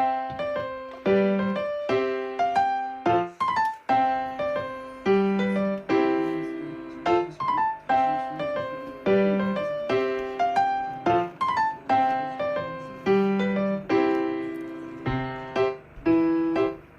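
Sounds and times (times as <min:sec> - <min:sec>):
light piano melody: 0:00.0 - 0:16.9.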